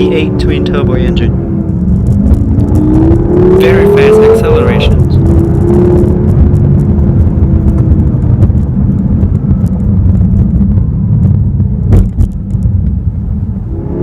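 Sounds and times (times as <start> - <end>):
car engine and exhaust rumble: 0.0 - 14.0.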